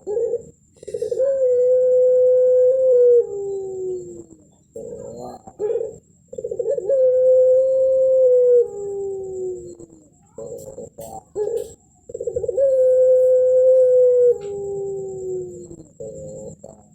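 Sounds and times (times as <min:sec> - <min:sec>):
dove cooing: 0:00.0 - 0:16.9.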